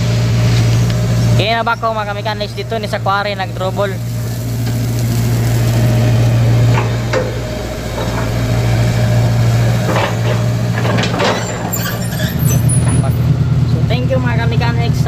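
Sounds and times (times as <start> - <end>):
hydraulic hum: 0.0 - 14.2
excavator diesel engine droning: 0.0 - 15.0.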